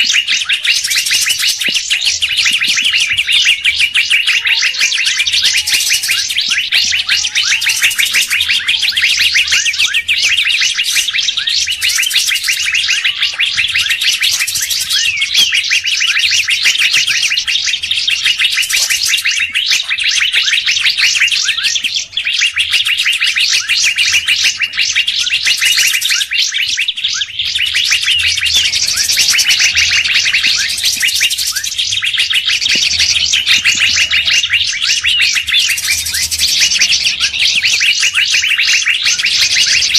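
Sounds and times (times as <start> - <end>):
faint wavering whistles: 0.0 - 39.9
songbird rapid high chatter: 0.0 - 39.9.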